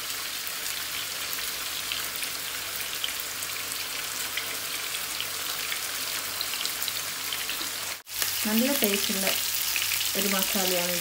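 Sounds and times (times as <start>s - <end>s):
fish sizzling and crackling in oil: 0.0s - 11.0s.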